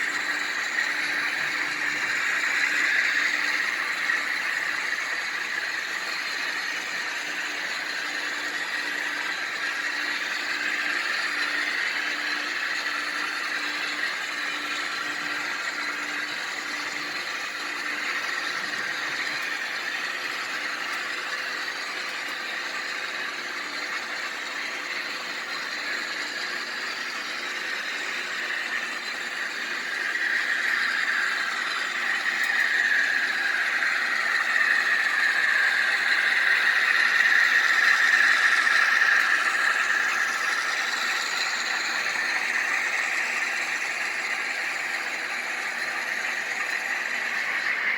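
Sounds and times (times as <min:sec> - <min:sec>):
model train running on track: 0:00.0 - 0:47.9.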